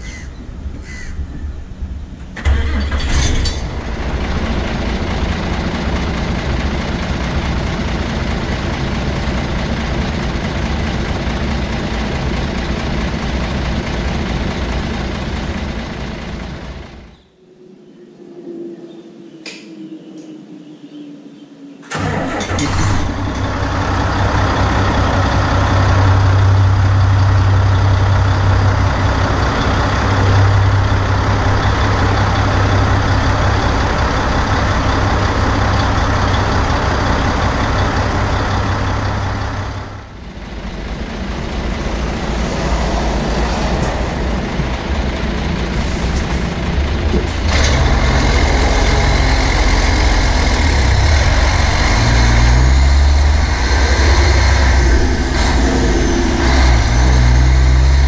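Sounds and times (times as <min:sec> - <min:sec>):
diesel engine idling: 0:00.0 - 0:17.2, 0:21.9 - 0:58.0
diesel engine starting: 0:01.8 - 0:17.2, 0:21.9 - 0:58.0.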